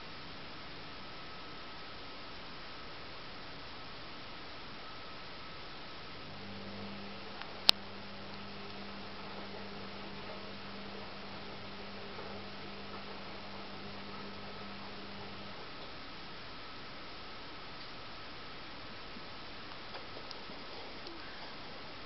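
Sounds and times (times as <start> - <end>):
background hiss: 0.0 - 22.0
low hum: 2.5 - 22.0.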